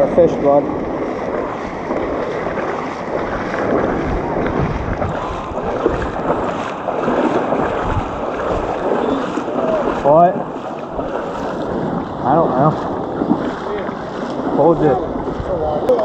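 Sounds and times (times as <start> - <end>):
sea water sloshing: 0.0 - 16.0
wind buffeting microphone: 0.0 - 16.0.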